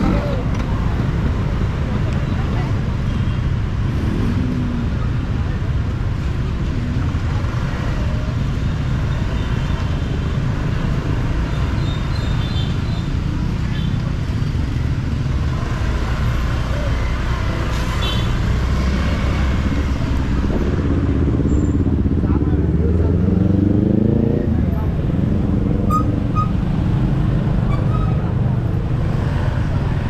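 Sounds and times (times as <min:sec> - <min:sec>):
city traffic: 0:00.0 - 0:30.0.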